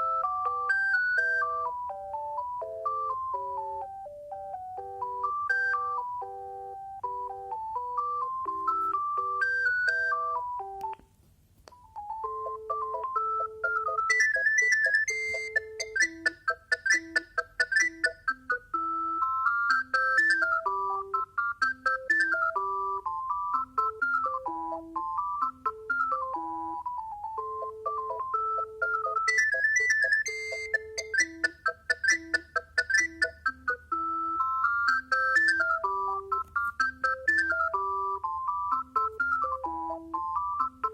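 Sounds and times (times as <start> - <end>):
phone ringtone melody: 0.0 - 11.0, 11.8 - 40.9.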